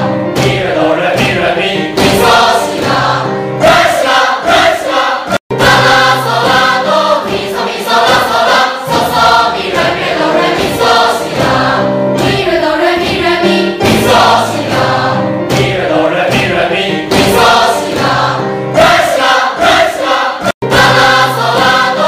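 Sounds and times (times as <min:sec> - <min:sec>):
choir singing: 0:00.0 - 0:22.0.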